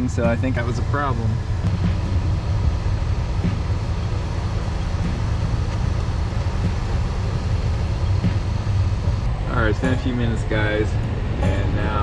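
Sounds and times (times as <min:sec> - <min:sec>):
minivan engine idling: 0:00.0 - 0:12.0.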